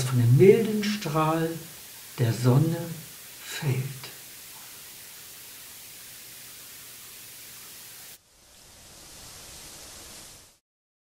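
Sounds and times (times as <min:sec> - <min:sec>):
recording noise hiss: 0:00.0 - 0:10.6.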